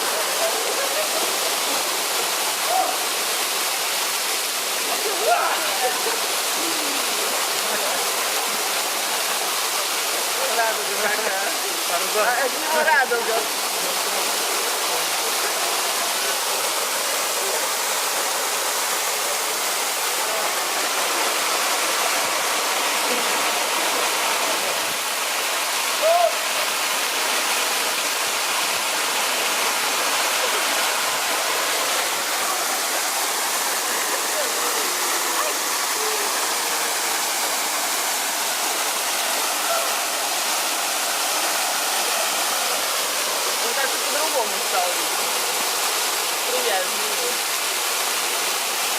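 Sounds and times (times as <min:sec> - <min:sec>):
waterfall pouring: 0:00.0 - 0:48.9.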